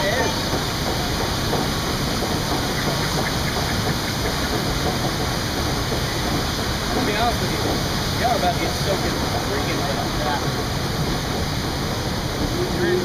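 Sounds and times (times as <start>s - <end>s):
conveyor lift rumble and hiss: 0.0s - 13.0s.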